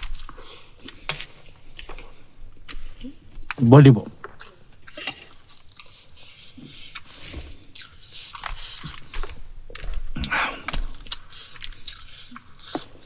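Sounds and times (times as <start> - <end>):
person chewing food: 0.0 - 3.6, 4.2 - 13.0.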